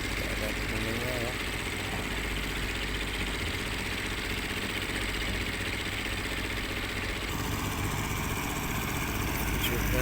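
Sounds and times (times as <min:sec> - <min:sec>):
motor engine running: 0:00.0 - 0:10.0.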